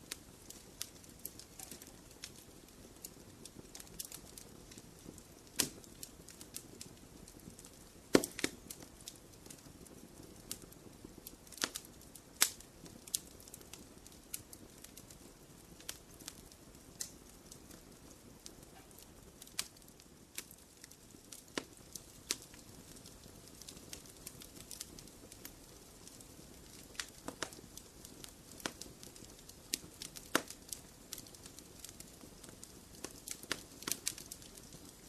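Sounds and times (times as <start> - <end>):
low hiss of burning: 0.0 - 35.0
wood fire crackling: 0.0 - 35.0.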